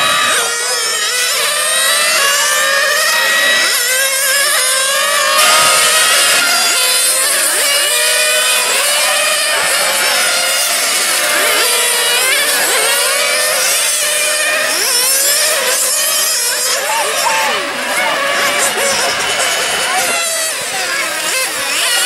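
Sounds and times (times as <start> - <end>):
model car engines whining: 0.0 - 22.0.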